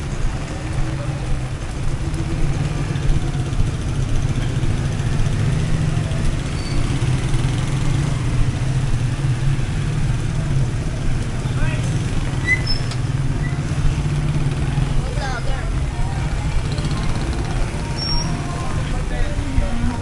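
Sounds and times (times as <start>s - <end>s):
tyres on wet pavement: 0.0s - 20.0s
vehicle engines humming: 0.0s - 20.0s.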